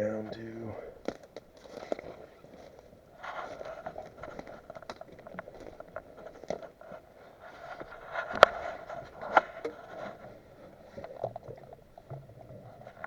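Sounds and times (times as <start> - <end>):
rustling handling noises: 0.2 - 13.0.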